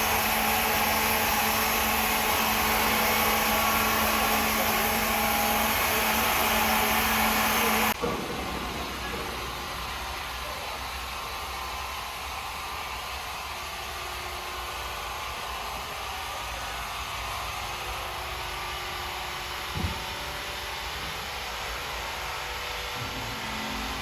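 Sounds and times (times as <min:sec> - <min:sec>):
sawmill machinery humming: 0:00.0 - 0:24.0.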